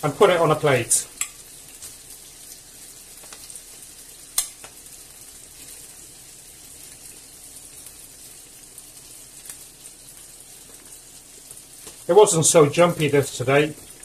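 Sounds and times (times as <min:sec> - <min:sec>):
meat sizzling in frying pan: 0:00.0 - 0:14.0.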